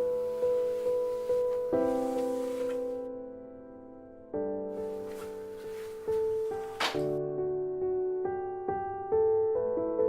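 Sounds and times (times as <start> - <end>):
slow soft piano music: 0.0 - 10.0.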